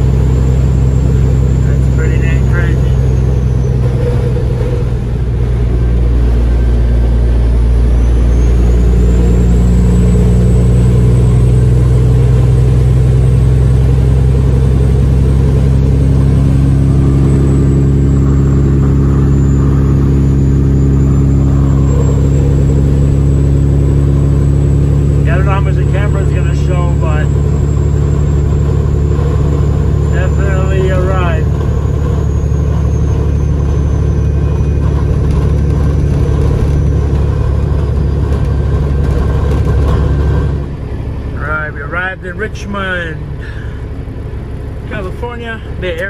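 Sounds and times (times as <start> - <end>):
truck diesel engine droning: 0.0 - 46.0.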